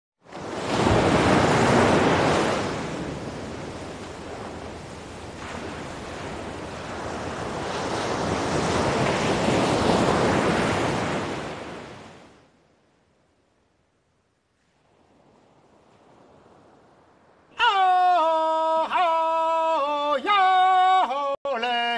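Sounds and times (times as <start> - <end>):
small waves washing onto beach: 0.2 - 20.6.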